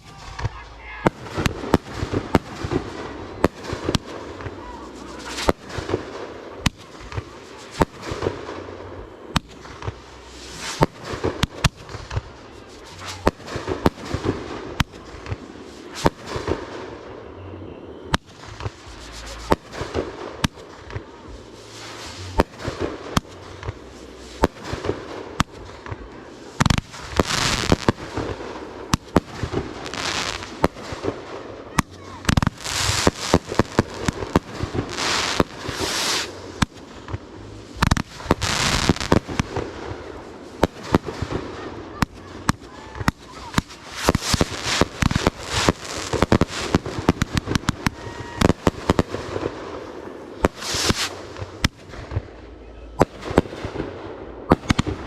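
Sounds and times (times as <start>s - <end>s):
fireworks banging: 0.0s - 17.1s, 18.0s - 55.0s
fireworks crackling: 0.0s - 55.0s.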